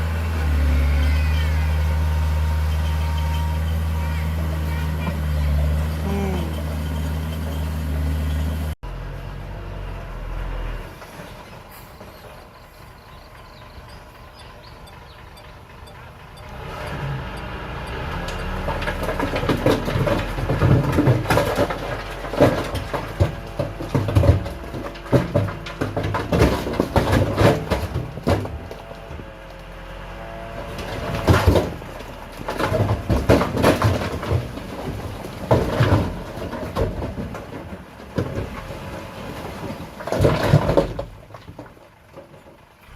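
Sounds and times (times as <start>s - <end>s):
heavy machinery diesel engine: 0.0s - 42.9s.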